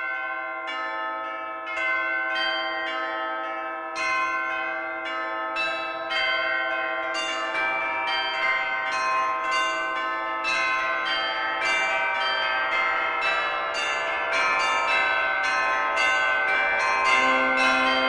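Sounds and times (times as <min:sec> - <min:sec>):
church bells ringing a peal: 0:00.0 - 0:18.0.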